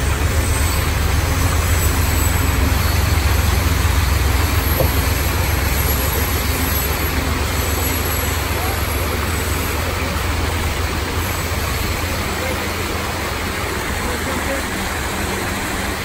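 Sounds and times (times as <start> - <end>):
passenger train passing: 0.0 - 16.0.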